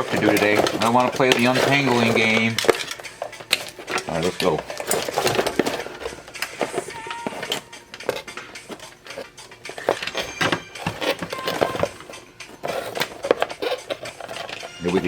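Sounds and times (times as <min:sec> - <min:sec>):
plastic pedals and cords clattering: 0:00.0 - 0:15.0.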